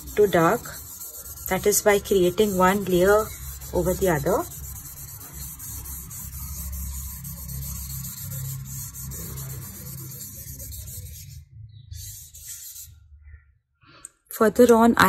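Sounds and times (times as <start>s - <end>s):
hand rubbing charcoal on paper: 0.0s - 11.4s, 12.0s - 12.9s.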